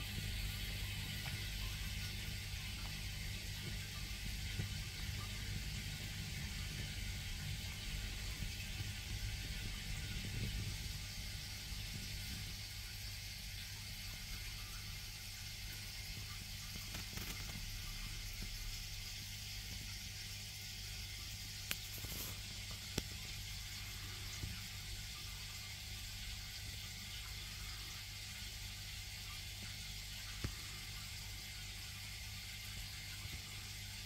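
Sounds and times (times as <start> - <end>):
aquarium filter hum: 0.0 - 34.0
faint water noise: 0.0 - 34.0.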